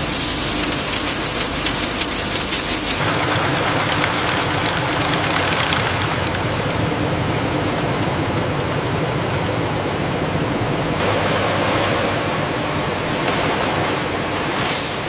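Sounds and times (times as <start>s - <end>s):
factory machinery rattling: 0.0s - 15.0s.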